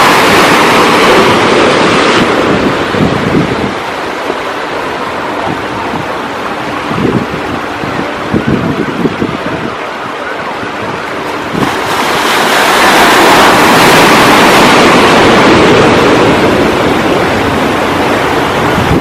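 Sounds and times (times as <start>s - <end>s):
rush of water: 0.0s - 19.0s
wave breaking: 0.0s - 19.0s
wind buffeting microphone: 0.0s - 19.0s.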